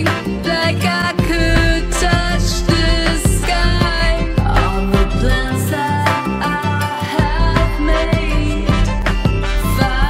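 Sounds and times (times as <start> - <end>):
music with beat and singing: 0.0 - 10.0.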